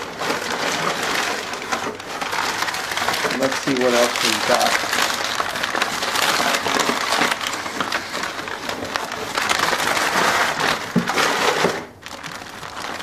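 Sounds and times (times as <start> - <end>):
packing paper crinkling: 0.0 - 13.0.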